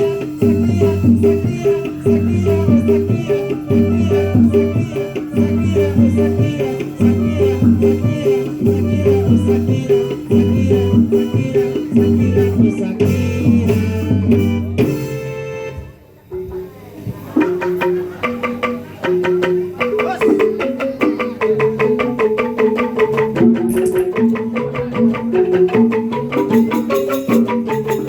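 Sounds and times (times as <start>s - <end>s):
drums: 0.0s - 28.0s
pitched percussion: 0.0s - 28.0s.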